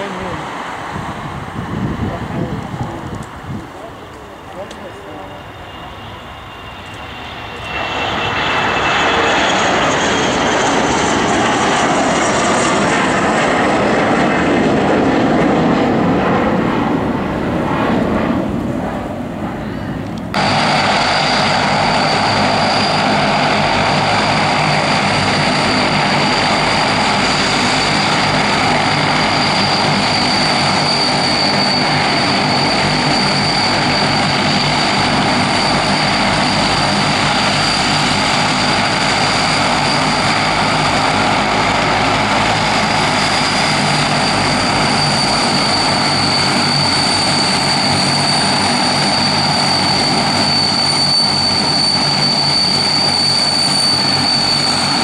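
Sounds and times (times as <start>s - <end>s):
aircraft engines running: 0.0s - 55.0s
high engine whine: 0.0s - 55.0s.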